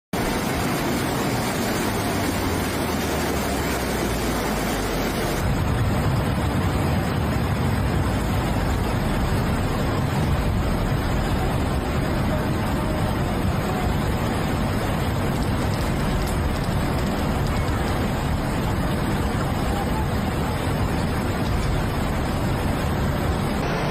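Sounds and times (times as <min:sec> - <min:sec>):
floodwater rushing: 0:00.2 - 0:23.9.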